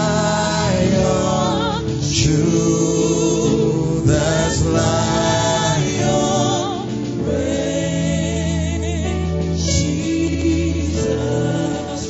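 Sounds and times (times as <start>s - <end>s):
gospel choir singing: 0.0s - 12.0s
male lead vocal: 0.0s - 12.0s.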